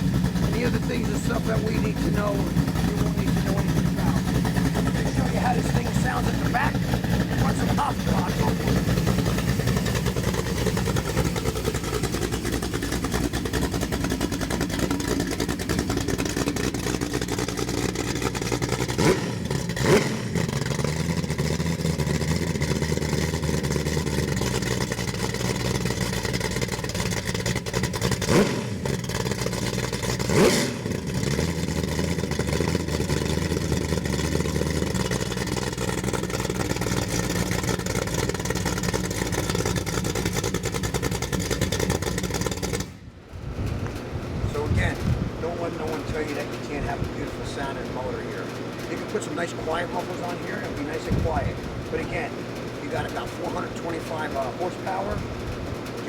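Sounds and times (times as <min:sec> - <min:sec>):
engine running and revving: 0:00.0 - 0:56.0.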